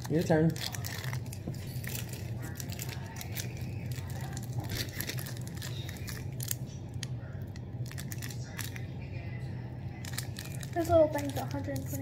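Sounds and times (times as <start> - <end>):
plastic wrapper crinkling: 0.0 - 8.9, 9.9 - 12.0.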